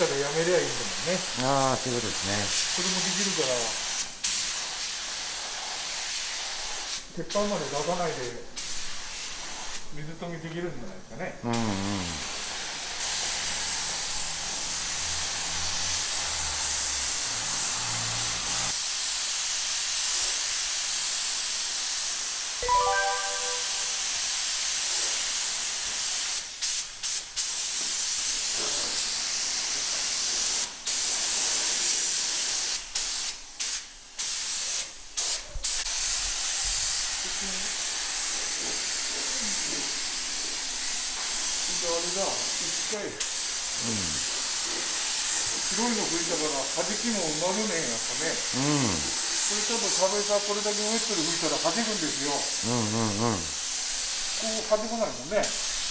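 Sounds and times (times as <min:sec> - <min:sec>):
paint spray gun hissing: 0:00.0 - 0:07.7, 0:08.6 - 0:09.8, 0:12.2 - 0:55.9.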